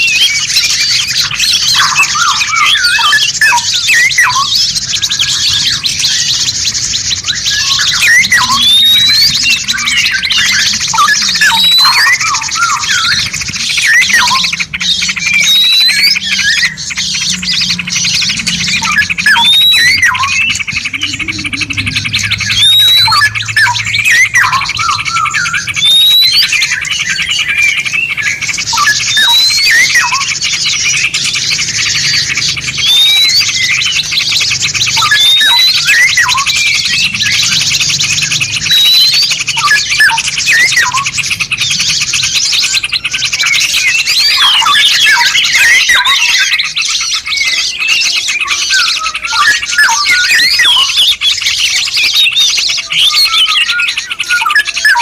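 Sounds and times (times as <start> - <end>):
rising bird whistle: 0.0 - 55.0
songbirds chirping and singing: 0.0 - 55.0.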